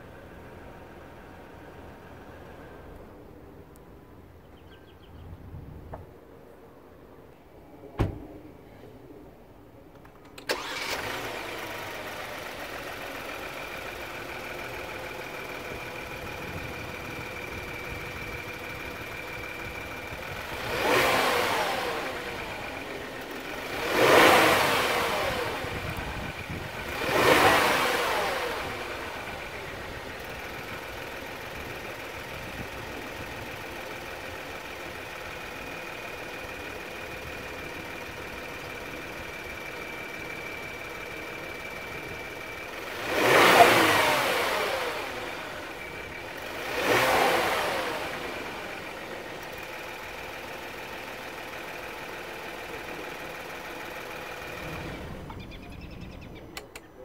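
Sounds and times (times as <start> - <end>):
car engine starting and idling: 0.0 - 5.0, 7.9 - 57.0
car engine revving: 10.4 - 56.8.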